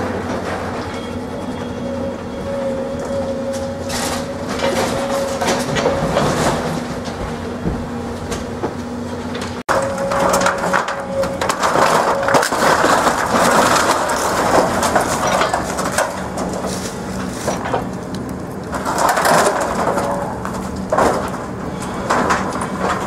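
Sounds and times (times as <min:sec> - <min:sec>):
excavator diesel engine: 0:00.0 - 0:23.0
wood cracking and splintering: 0:02.8 - 0:23.0.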